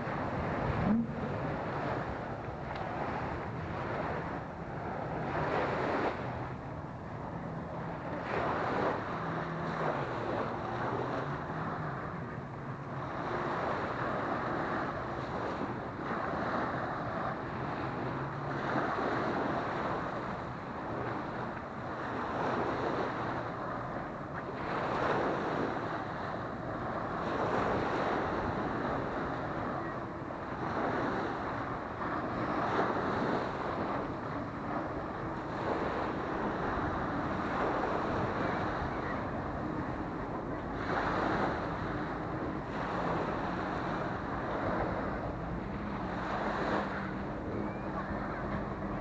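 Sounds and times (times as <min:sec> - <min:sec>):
faint low engine hum: 0:00.0 - 0:49.0
waves breaking on sandy beach: 0:00.0 - 0:49.0
wind buffeting microphone: 0:00.0 - 0:49.0.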